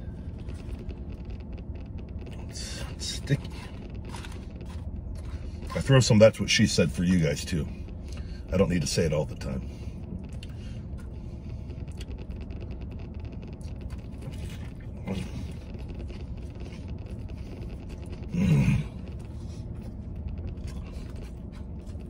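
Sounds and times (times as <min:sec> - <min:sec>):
low rumble in truck cab: 0:00.0 - 0:22.0
man chewing with mouth smacks: 0:00.1 - 0:05.9, 0:09.9 - 0:22.0.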